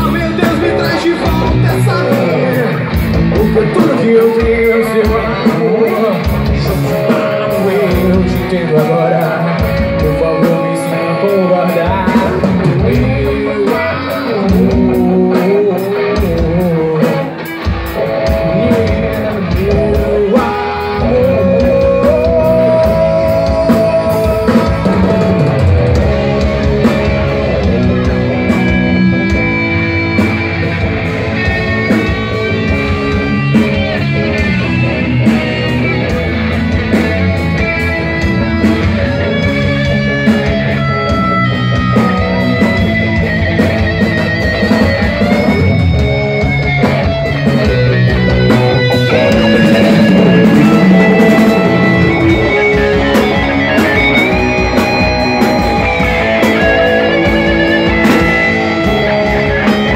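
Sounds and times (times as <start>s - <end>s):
bass guitar: 0.0s - 59.9s
drum kit: 0.0s - 59.9s
electric guitar lead melody: 0.0s - 59.9s.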